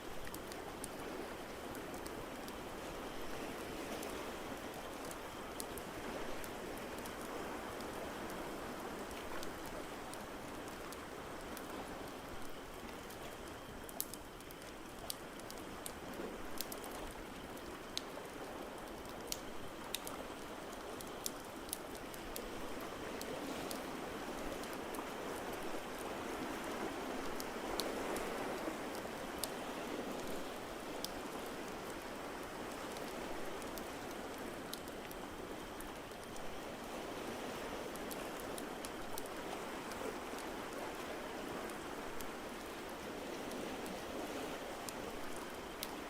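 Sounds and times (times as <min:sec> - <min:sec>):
wood fire crackling: 0:00.1 - 0:46.0.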